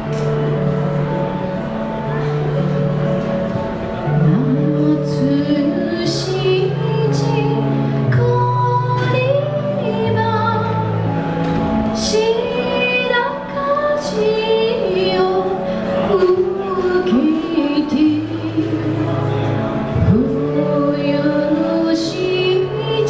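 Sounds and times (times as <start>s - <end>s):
backing music of held chords: 0.0s - 23.0s
woman singing into microphone: 4.1s - 23.0s.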